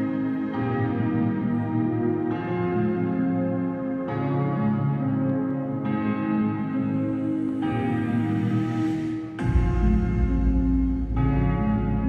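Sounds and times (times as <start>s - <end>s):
slow ballroom dance music: 0.0s - 12.0s.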